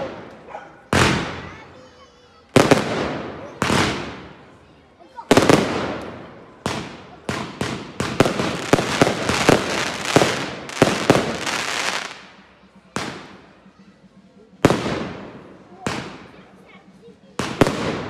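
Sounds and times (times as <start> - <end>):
fireworks bursting with bangs: 0.0 - 1.7, 2.5 - 4.6, 5.2 - 13.5, 14.6 - 16.5, 17.4 - 18.0
fireworks crackling: 0.0 - 1.8, 2.5 - 13.5, 14.6 - 16.7, 17.4 - 18.0.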